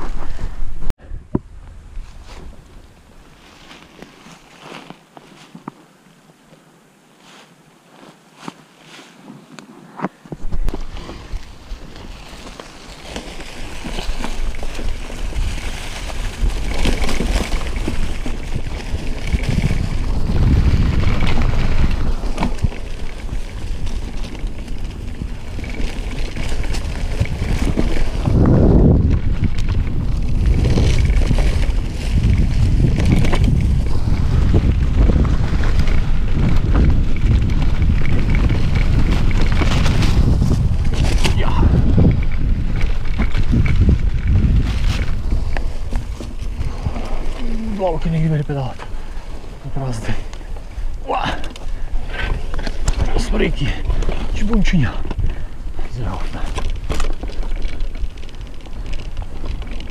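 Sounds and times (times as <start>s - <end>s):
bike tyres rumbling on dirt: 0.0s - 5.8s, 10.1s - 59.9s
wind buffeting microphone: 10.3s - 59.9s.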